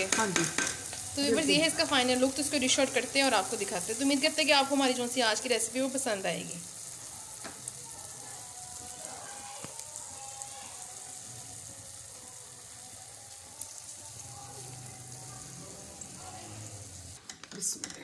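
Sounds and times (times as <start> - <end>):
food sizzling in a metal pan: 0.0 - 17.2.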